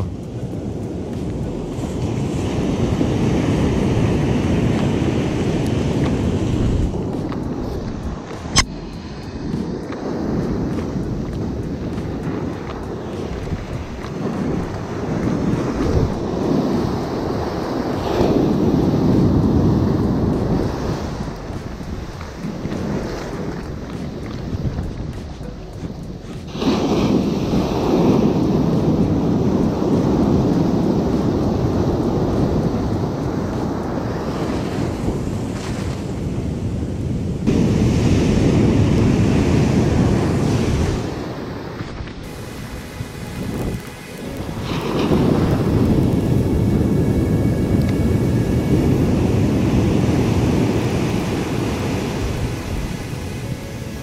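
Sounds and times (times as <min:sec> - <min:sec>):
sea surf breaking: 0:00.0 - 0:54.0
wind buffeting microphone: 0:00.0 - 0:54.0.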